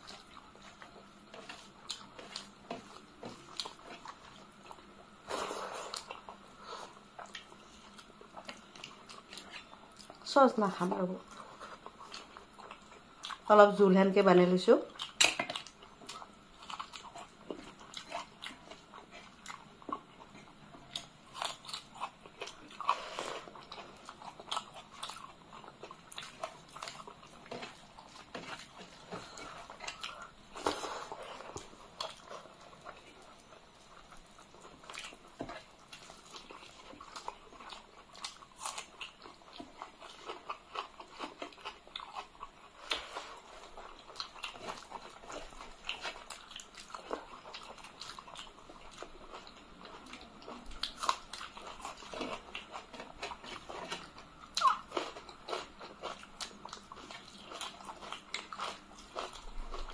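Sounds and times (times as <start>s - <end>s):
chewing and crunchy bites: 0.0s - 13.6s, 14.9s - 59.9s.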